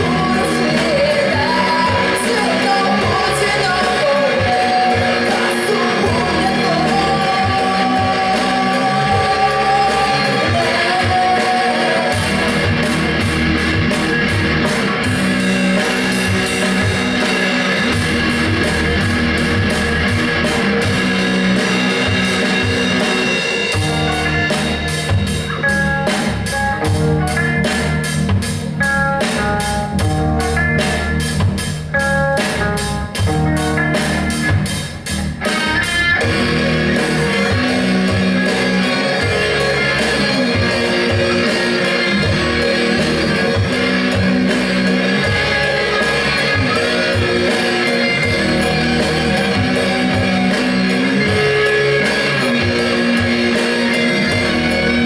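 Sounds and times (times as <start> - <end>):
heavy rock music: 0.0 - 55.0.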